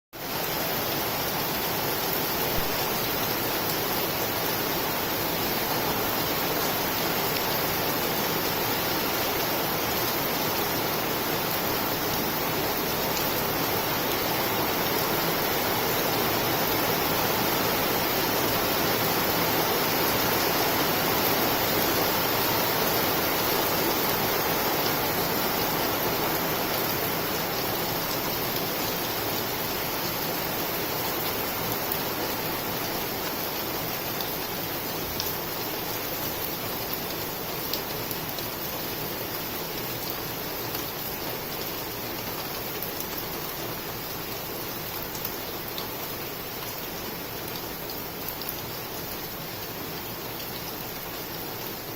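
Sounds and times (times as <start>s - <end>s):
steady rain: 0.1s - 51.9s.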